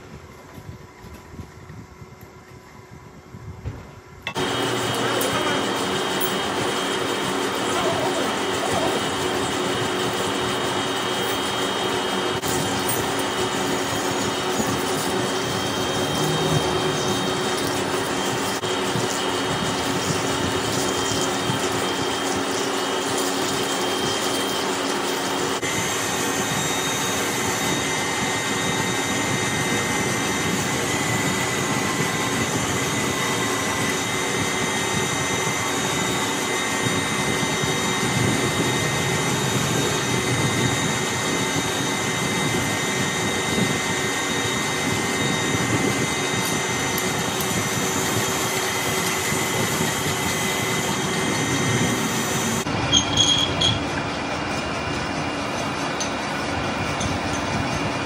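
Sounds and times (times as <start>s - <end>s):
lathe cutting steel: 4.3s - 58.0s.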